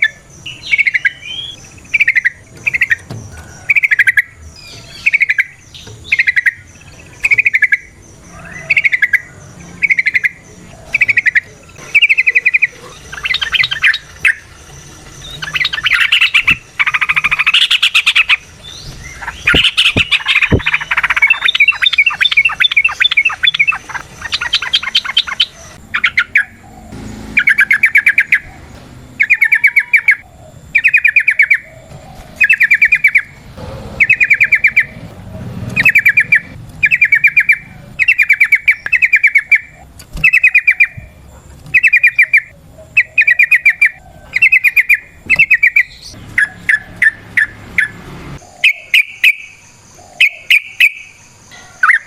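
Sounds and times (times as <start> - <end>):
bulbuls singing: 0.0 - 52.0.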